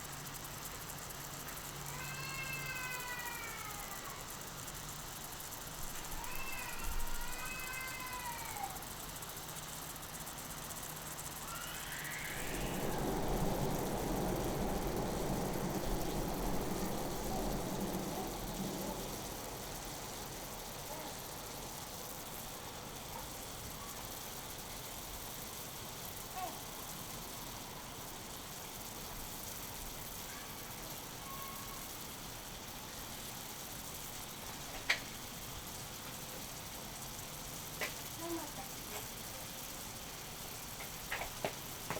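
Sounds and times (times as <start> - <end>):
steak sizzling on a griddle: 0.0 - 12.5, 15.4 - 41.9.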